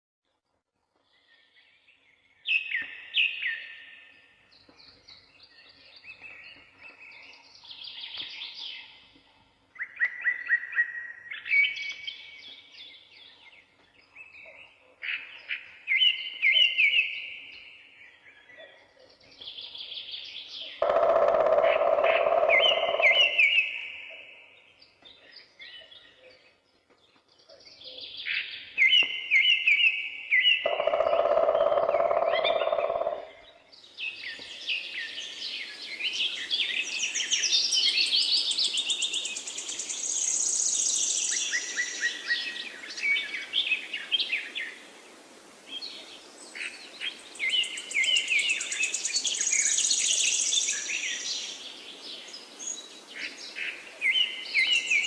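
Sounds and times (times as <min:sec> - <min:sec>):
songbirds chirping and trilling: 0:00.3 - 0:55.0.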